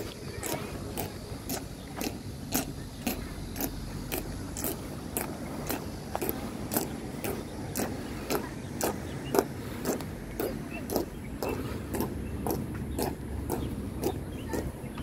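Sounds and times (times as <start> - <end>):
marching boots on stone: 0.0 - 15.0.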